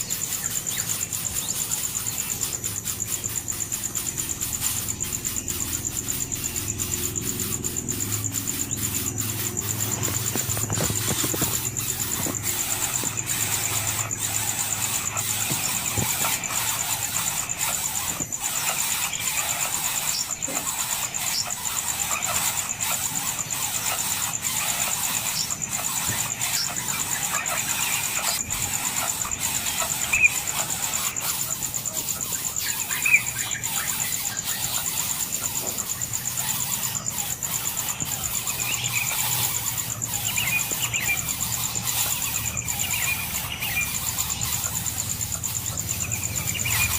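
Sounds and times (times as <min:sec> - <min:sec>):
bird chirps: 0:00.0 - 0:46.9
insect drone: 0:00.0 - 0:46.9.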